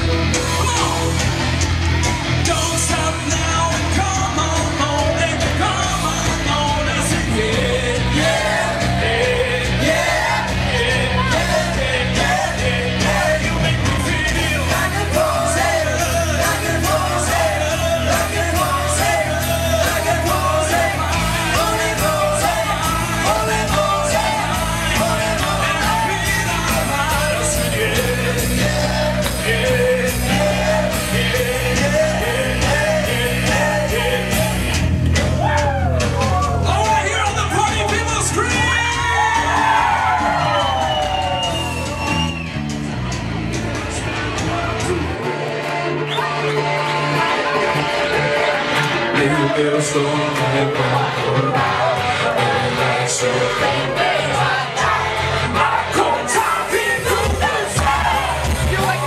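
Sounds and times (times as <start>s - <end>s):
amplified singing: 0.0s - 42.7s, 43.6s - 59.0s
crowd yelling: 0.0s - 59.0s
live band playing: 0.0s - 59.0s.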